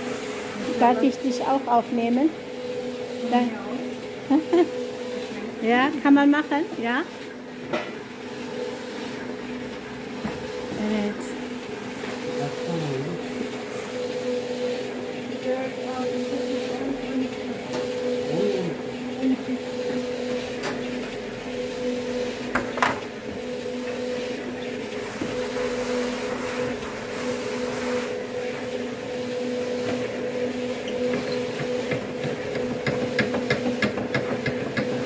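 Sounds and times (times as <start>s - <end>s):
machinery humming: 0.0s - 35.0s.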